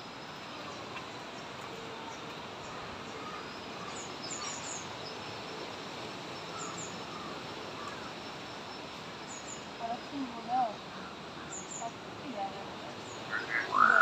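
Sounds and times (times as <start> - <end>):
outdoor ambience hiss: 0.0 - 14.0.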